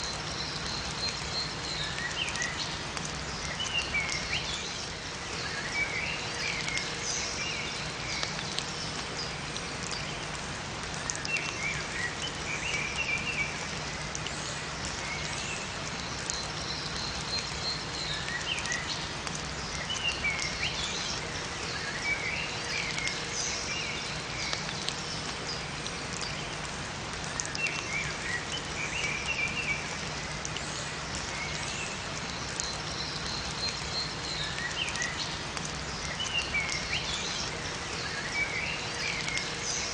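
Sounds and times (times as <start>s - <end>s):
rain falling in forest: 0.0s - 39.9s
songbirds chirping: 0.0s - 39.9s.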